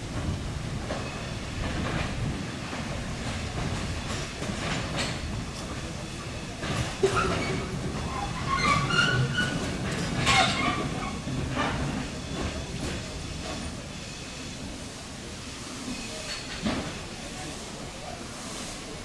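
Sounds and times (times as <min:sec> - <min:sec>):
steam locomotive rumbling: 0:00.0 - 0:19.0.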